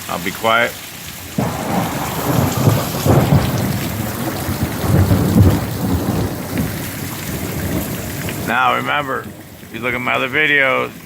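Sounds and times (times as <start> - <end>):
heavy rain hissing: 0.0 - 11.0
thunder rumbling: 1.4 - 10.5.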